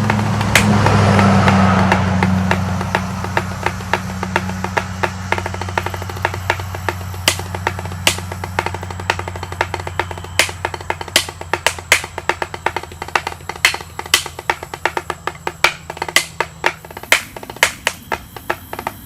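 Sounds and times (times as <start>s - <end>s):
drumsticks tapping practice pad: 0.0s - 19.0s
low steady hum: 0.0s - 19.0s.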